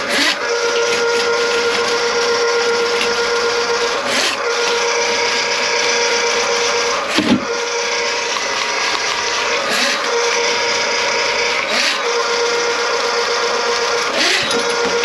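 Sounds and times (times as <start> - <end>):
drain-cleaning machine whining hum: 0.0 - 15.0.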